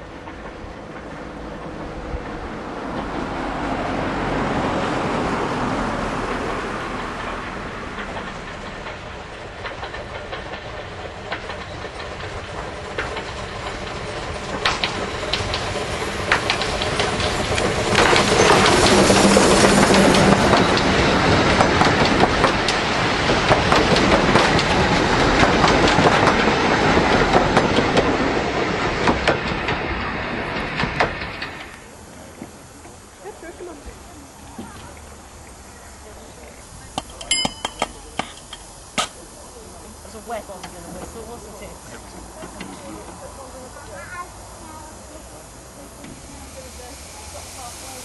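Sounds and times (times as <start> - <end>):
steam train passing: 0.0 - 48.0
wheels clicking over rail joints: 0.0 - 48.0.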